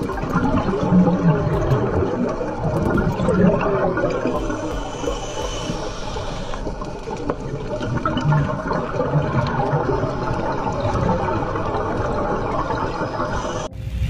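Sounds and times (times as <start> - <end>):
churning bubbling water underwater: 0.0 - 13.7.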